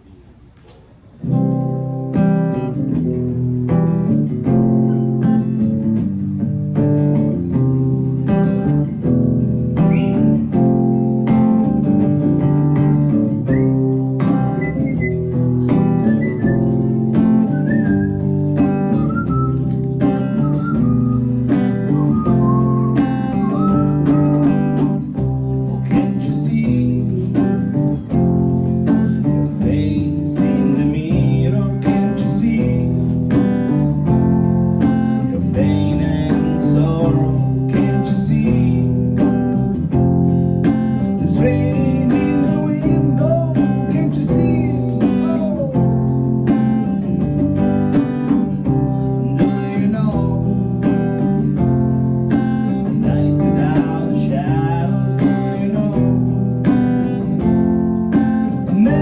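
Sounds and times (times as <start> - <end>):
steady drum beat: 0.0 - 59.0
strummed guitar: 0.0 - 59.0.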